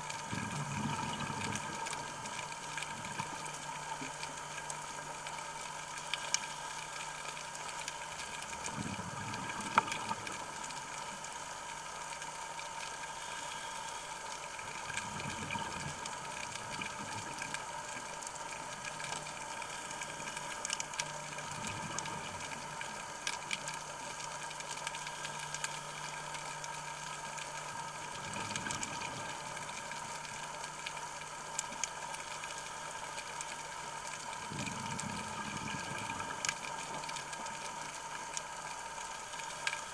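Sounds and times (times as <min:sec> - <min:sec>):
steady electrical hum: 0:00.0 - 0:39.9
underwater scuba bubbles rumbling: 0:00.0 - 0:39.9
faint clicks: 0:00.1 - 0:39.9.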